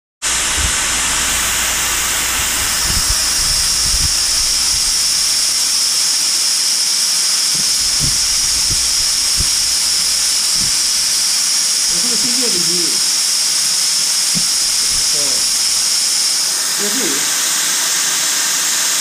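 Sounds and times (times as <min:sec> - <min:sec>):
compressed air hissing: 0:00.2 - 0:17.2.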